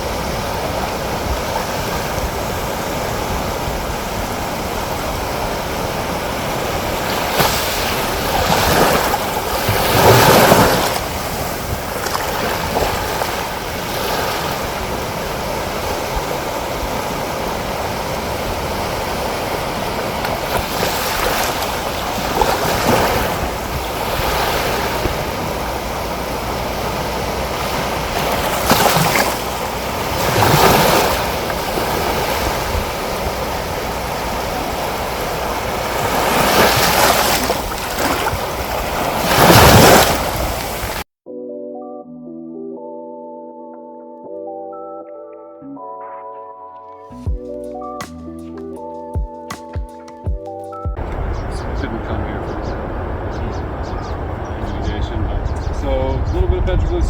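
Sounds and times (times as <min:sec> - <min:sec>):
ocean waves breaking on rocks: 0:00.0 - 0:41.1, 0:51.0 - 0:57.0.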